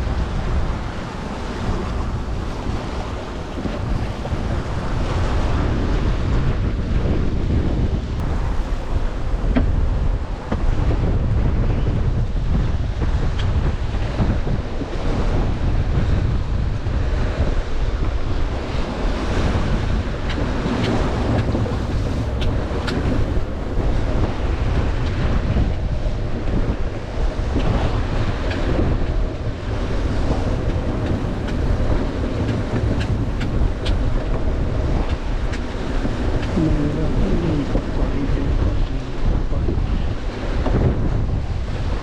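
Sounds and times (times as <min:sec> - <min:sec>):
water rushing along hull: 0:00.0 - 0:42.0
wind buffeting microphone: 0:00.0 - 0:42.0.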